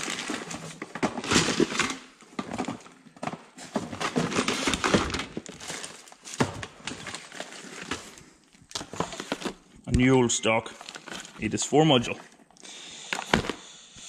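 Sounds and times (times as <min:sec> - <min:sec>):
packaging rustling: 0:00.0 - 0:13.6.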